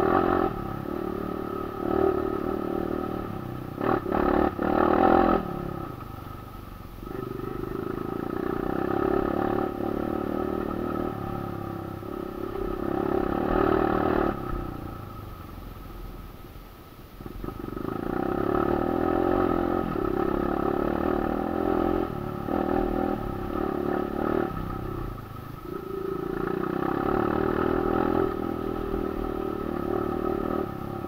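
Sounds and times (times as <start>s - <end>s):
motorcycle engine revving: 0.0s - 15.5s, 17.2s - 31.0s.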